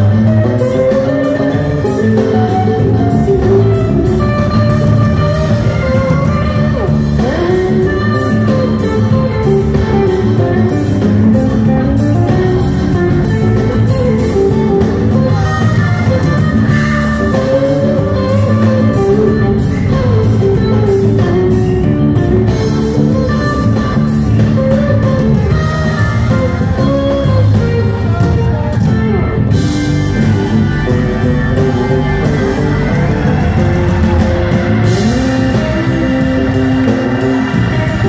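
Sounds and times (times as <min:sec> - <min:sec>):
bass guitar: 0:00.0 - 0:38.0
drum kit: 0:00.0 - 0:38.0
electric guitar: 0:00.0 - 0:38.0
hammond organ: 0:00.0 - 0:38.0.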